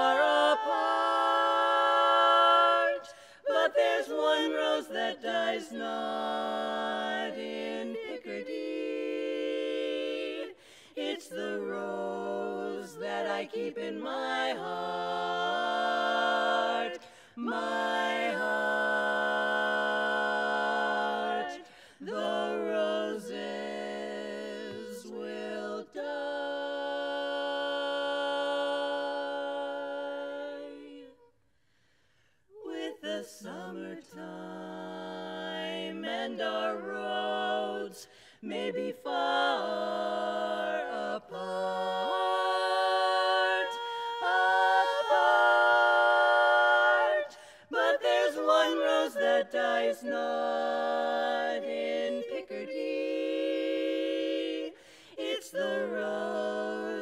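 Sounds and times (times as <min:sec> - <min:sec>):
women singing in harmony: 0:00.0 - 0:31.4, 0:32.4 - 0:57.0.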